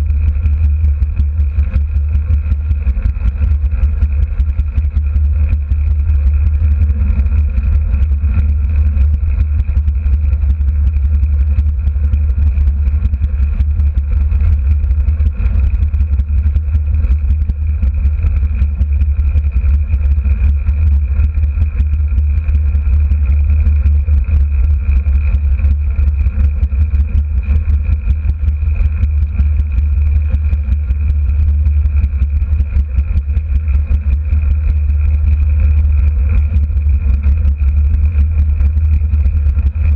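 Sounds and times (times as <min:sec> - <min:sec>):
small motor running with whine: 0:00.0 - 0:39.9.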